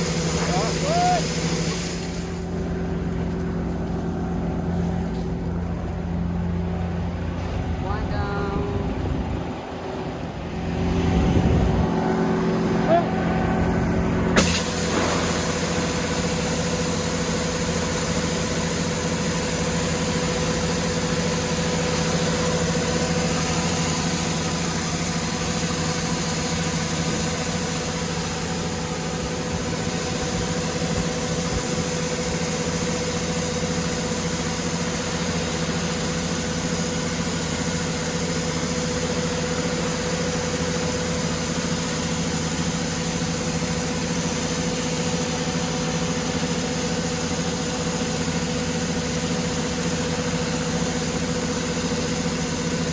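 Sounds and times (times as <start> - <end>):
harvester engine running: 0.0 - 52.9.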